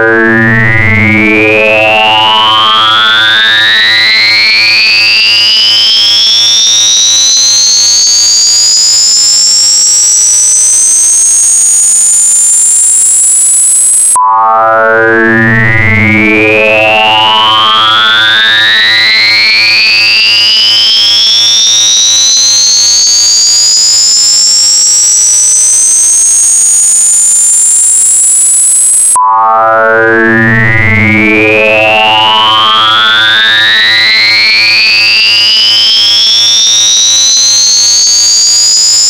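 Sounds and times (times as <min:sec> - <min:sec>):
rising electronic tones: 0:05.5 - 0:39.0.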